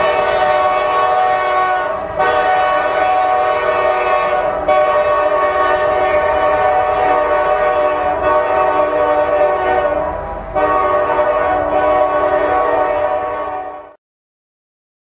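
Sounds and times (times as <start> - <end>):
locomotive air horn blasts: 0.0 - 14.0.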